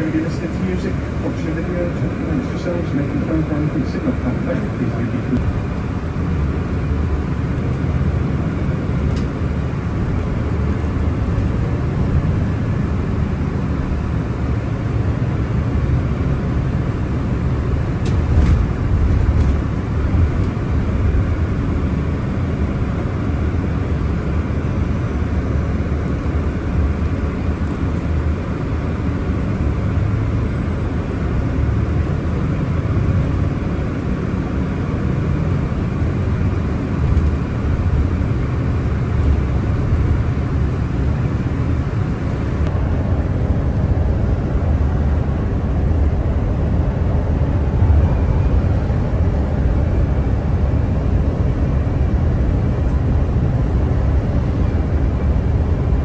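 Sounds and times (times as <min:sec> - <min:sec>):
engine and road noise rumble: 0:00.0 - 0:56.0.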